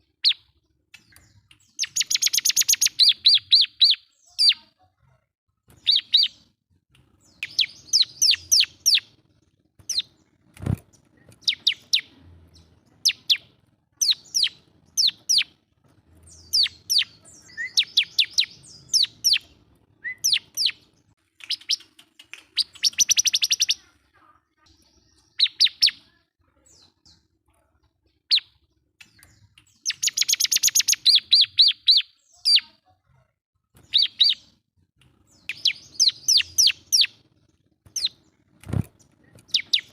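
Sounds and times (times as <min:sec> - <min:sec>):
bird chirping song: 0:00.0 - 0:04.9, 0:05.7 - 0:32.9, 0:33.7 - 0:39.9.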